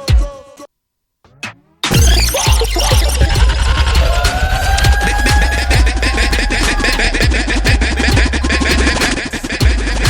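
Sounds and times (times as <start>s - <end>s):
deep bass drops: 1.9s - 10.0s
electronic dance beat: 1.9s - 10.0s
fast ticking hi-hats: 1.9s - 10.0s.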